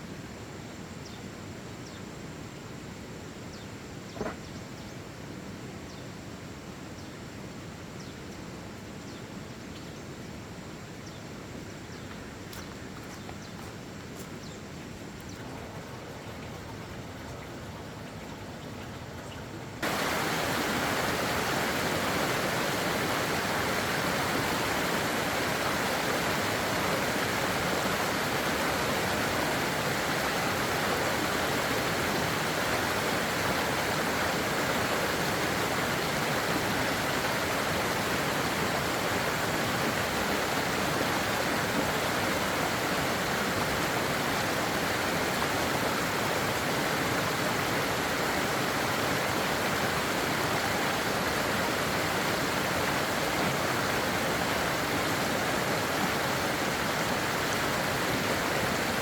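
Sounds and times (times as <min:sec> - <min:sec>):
running water rushing: 0:11.5 - 0:59.0.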